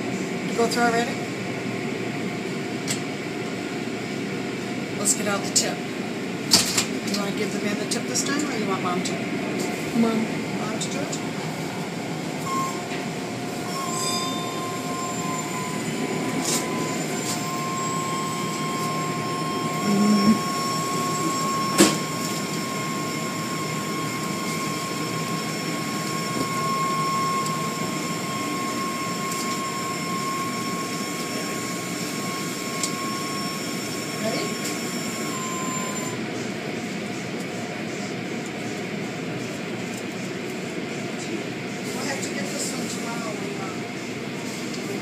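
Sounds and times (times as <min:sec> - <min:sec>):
car wash mechanical whine: 0:00.0 - 0:45.0.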